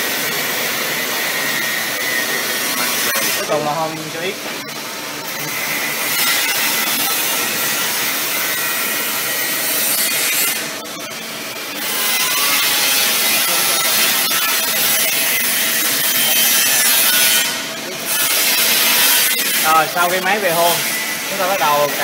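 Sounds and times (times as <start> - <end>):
milling machine running: 0.0 - 22.0.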